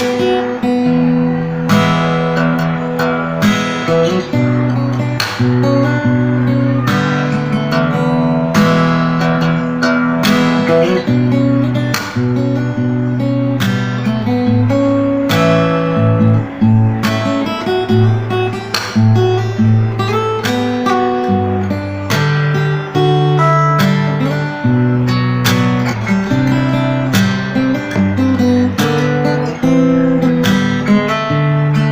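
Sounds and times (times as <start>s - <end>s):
fingerstyle acoustic guitar: 0.0s - 31.9s.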